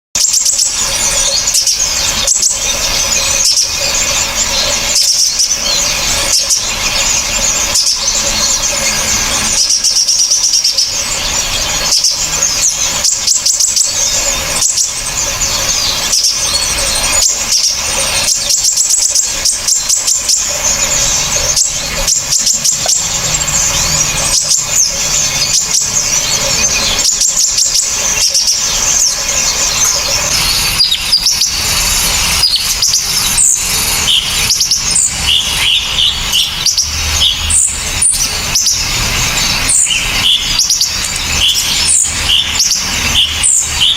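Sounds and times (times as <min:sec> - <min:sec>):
sharp whistled bird notes: 0:00.2 - 0:43.9
songbirds chirping and trilling: 0:00.2 - 0:43.9.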